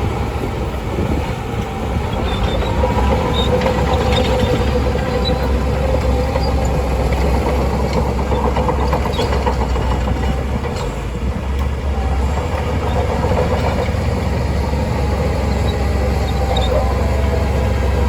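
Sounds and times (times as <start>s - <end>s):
bulldozer diesel engine rumbling: 0.0s - 18.0s
metallic clatter of tracks: 1.2s - 17.4s.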